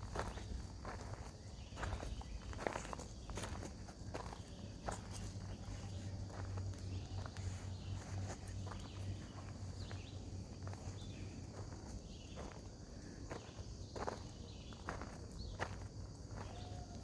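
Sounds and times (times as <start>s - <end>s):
footsteps on a trail: 0.0s - 17.0s
high-pitched insect chorus: 0.0s - 17.0s.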